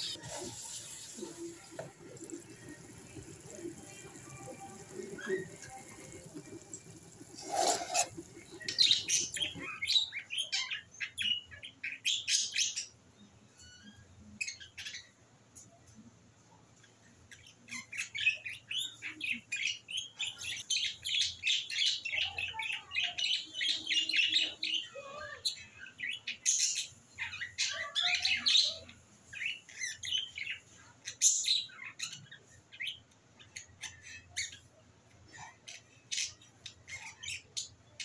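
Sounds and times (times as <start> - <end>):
small birds chirping: 0.0 - 16.0, 16.6 - 38.0.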